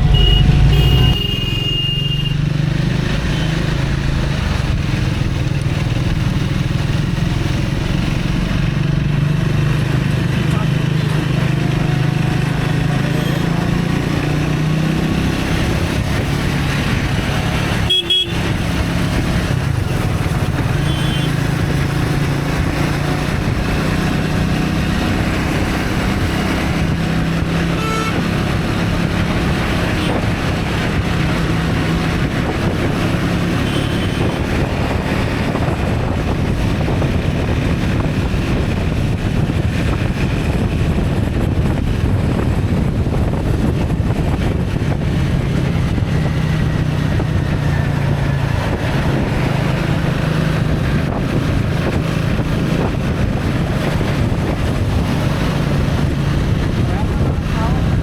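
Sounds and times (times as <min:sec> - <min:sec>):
vehicle engine hum: 0:00.0 - 0:58.0
wind buffeting microphone: 0:00.0 - 0:58.0.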